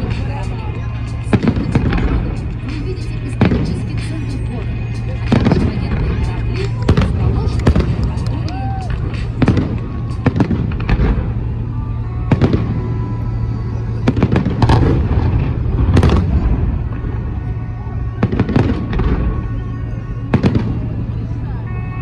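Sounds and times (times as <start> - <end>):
fireworks bangs: 0.0 - 22.0
steady low rumble: 0.0 - 22.0.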